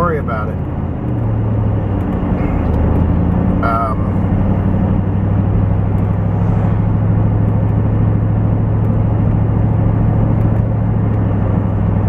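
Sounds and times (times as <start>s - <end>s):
constant low hum: 0.0s - 12.0s
truck engine and road drone: 0.0s - 12.0s.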